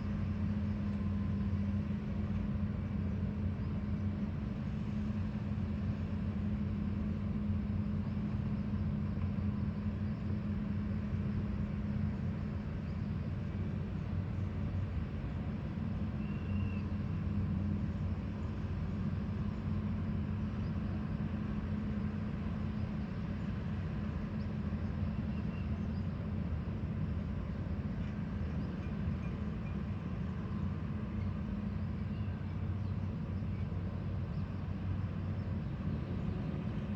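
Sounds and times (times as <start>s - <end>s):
construction machinery engine hum: 0.0s - 36.9s.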